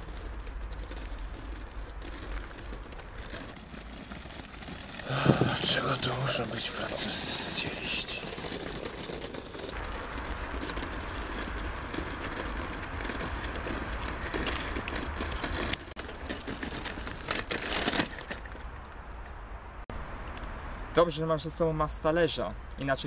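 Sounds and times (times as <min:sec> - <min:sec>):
suitcase wheels rolling on gravel: 0:00.0 - 0:19.5.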